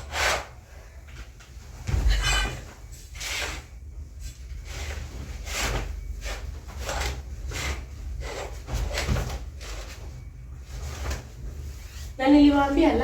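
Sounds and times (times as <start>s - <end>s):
curtains rubbing and scraping: 0.0s - 0.8s, 1.5s - 13.0s
steady low hum: 0.0s - 13.0s.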